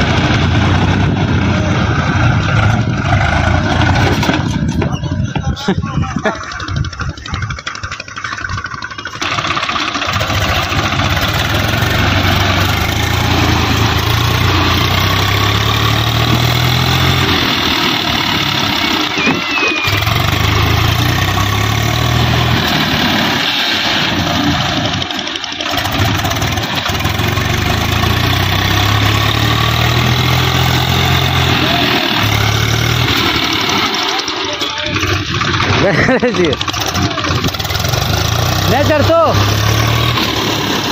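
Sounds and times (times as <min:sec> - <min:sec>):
diesel tractor engine under load: 0:00.0 - 0:40.9
rotavator churning mud: 0:02.0 - 0:40.9.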